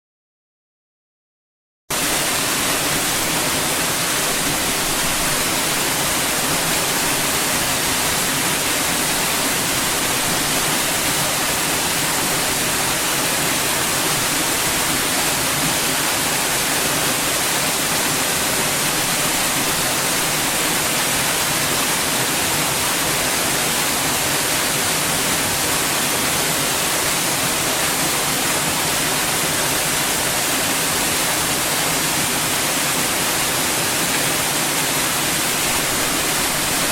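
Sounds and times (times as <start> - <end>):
white noise hiss: 2.0 - 36.9.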